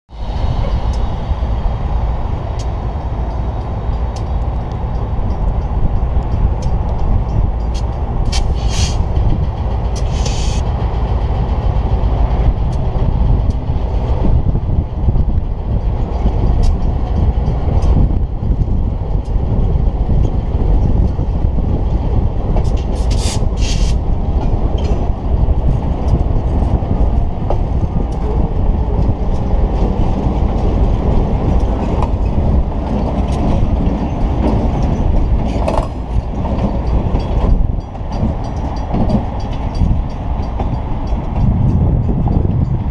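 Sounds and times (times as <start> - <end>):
diesel locomotive engines running: 0.1 - 42.9
wheels rolling on rails: 0.5 - 42.9.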